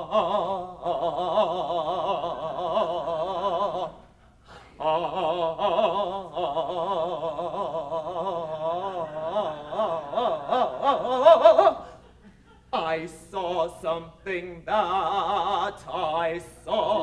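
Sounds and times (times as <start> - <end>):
person singing with vibrato: 0.0 - 17.0.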